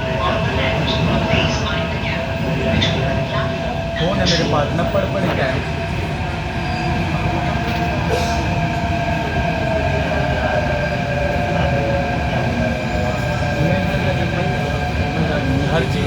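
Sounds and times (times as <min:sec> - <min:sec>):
train low rumble with whine: 0:00.0 - 0:16.0.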